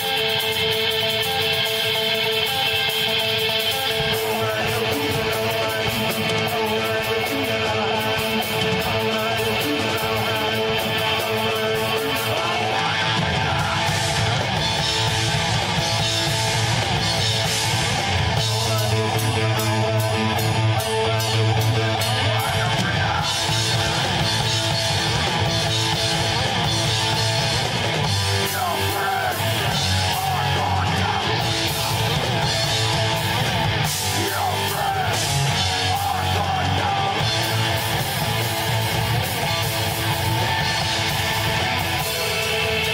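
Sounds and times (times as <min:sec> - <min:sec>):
electric guitar: 0:00.0 - 0:42.9
live rock band: 0:00.0 - 0:42.9.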